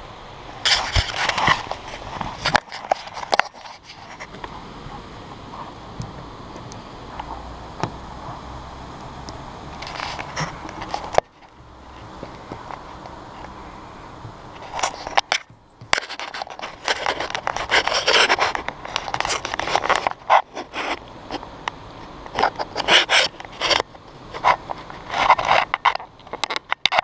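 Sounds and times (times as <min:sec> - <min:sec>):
camera scraping against masonry: 0:00.6 - 0:05.9, 0:09.7 - 0:27.0.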